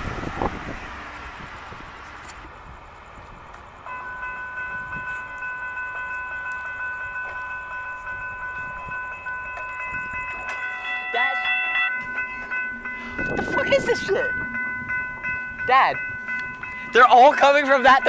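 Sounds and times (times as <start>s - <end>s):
light wind noise: 0.0s - 10.7s, 11.9s - 18.0s.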